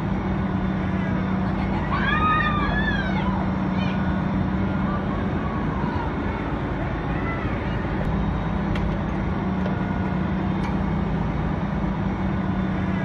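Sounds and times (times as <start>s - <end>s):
loud outdoor noise: 0.0s - 13.0s
vehicle engine humming: 0.0s - 13.0s.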